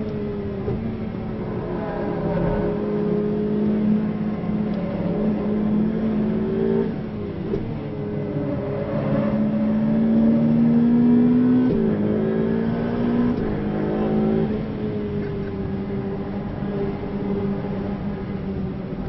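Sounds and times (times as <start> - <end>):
car engine under load: 0.0 - 19.0.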